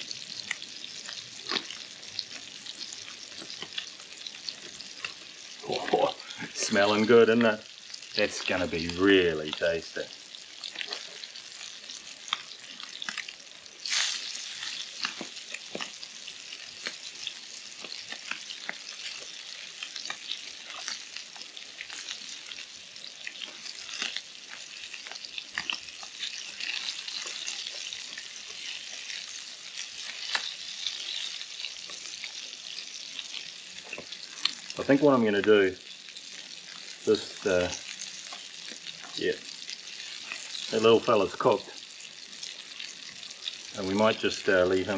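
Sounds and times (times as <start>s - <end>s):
fish sizzling in hot oil: 0.0s - 44.9s
oil crackling and spitting: 0.1s - 35.2s, 36.0s - 44.3s.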